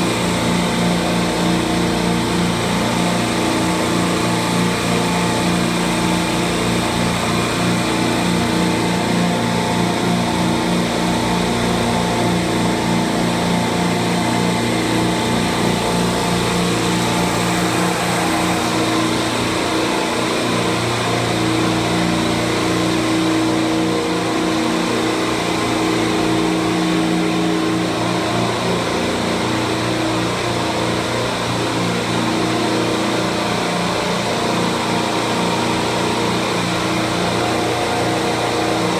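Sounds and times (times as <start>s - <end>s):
compressor machine drone: 0.0s - 38.9s.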